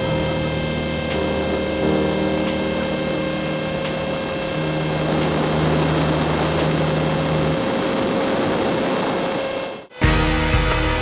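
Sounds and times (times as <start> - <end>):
helicopter rotor and motor noise: 0.0 - 11.0
high-pitched whine: 0.0 - 11.0
low hum: 0.0 - 11.0.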